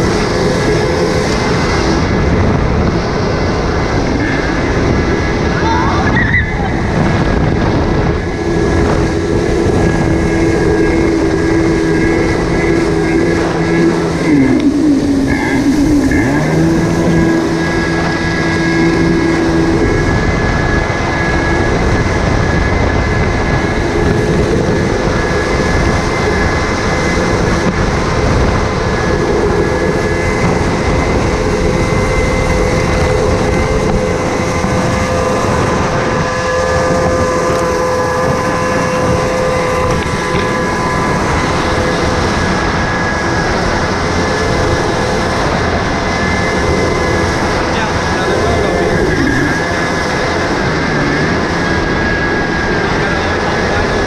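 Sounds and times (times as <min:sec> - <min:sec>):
jet ski engine running: 0:00.0 - 0:54.0
water rushing: 0:00.0 - 0:54.0
wind on microphone: 0:00.0 - 0:54.0.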